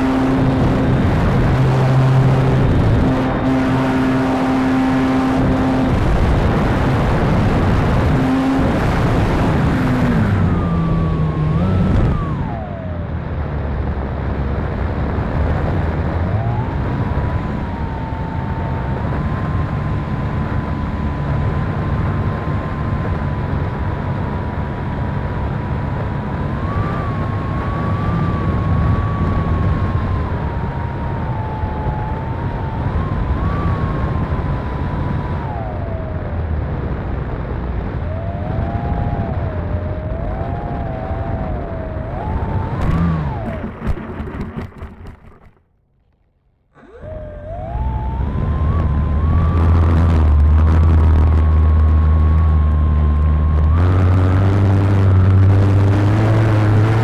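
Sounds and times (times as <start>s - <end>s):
wind rushing over microphone: 0.0s - 45.6s, 46.8s - 57.0s
electric motor and propeller whine: 0.0s - 45.7s, 46.7s - 57.0s.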